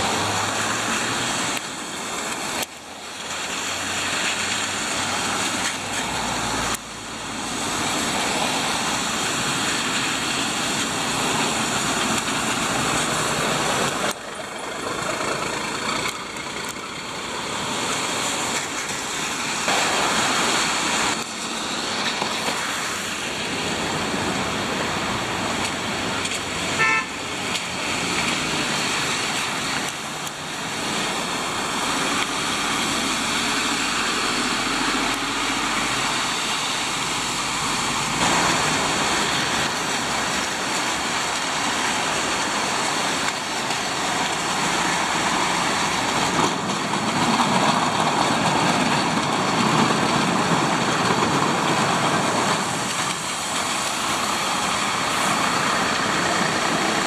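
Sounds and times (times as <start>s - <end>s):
tyres hissing on wet road: 0.0s - 57.0s
vehicles driving past: 0.0s - 57.0s.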